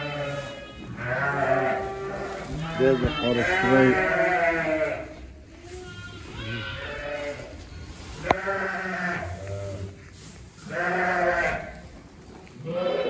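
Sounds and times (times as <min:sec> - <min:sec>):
sheep bleating: 0:00.0 - 0:07.6, 0:08.2 - 0:09.9, 0:10.6 - 0:11.8, 0:12.6 - 0:13.0.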